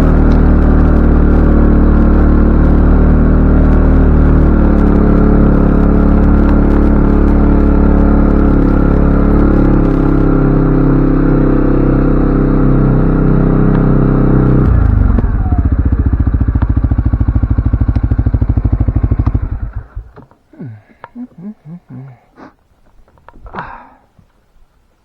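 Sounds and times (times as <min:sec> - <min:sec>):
atv engine running: 0:00.0 - 0:20.4.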